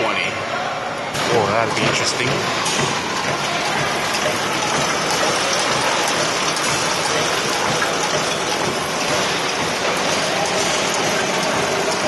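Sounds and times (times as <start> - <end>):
conveyor machine running: 0.0 - 12.0.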